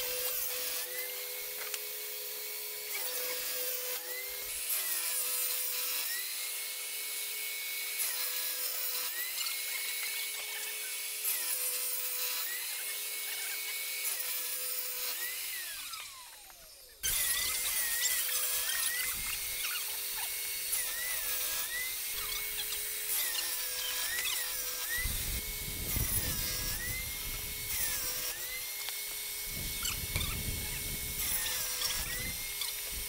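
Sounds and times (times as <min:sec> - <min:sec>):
saw motor winding down: 0:00.0 - 0:33.0
table saw cutting wood: 0:00.0 - 0:33.0.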